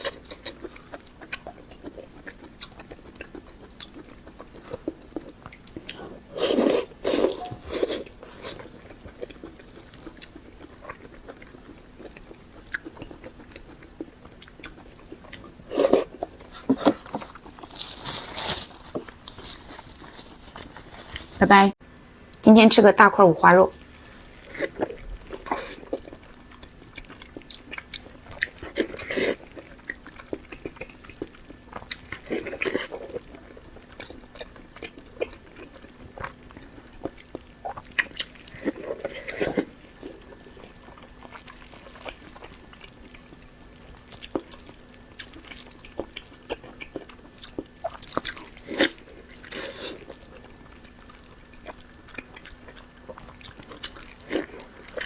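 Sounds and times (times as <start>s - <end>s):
person chewing and smacking: 0.0s - 21.4s, 23.8s - 55.0s.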